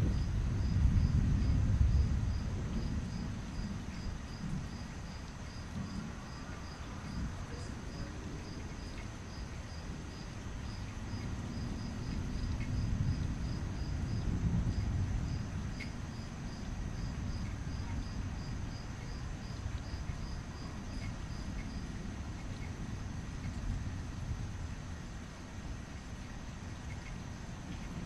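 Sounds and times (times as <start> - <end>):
insects chirping: 0.1 - 28.0.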